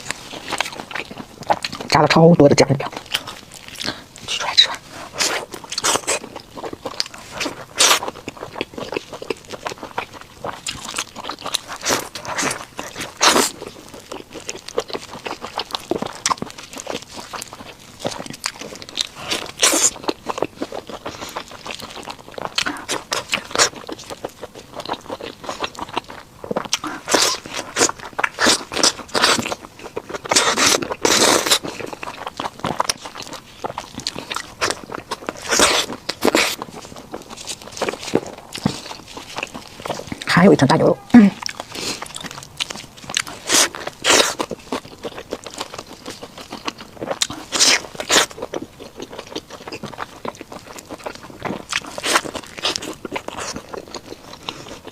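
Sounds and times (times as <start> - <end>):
biting and chewing burger: 0.0 - 40.4, 41.1 - 54.9.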